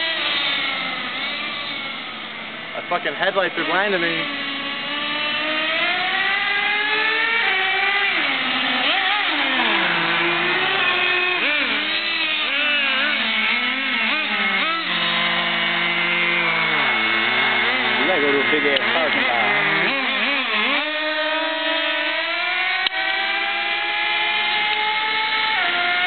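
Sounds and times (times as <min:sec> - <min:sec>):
small nitro engines revving: 0:00.0 - 0:26.0.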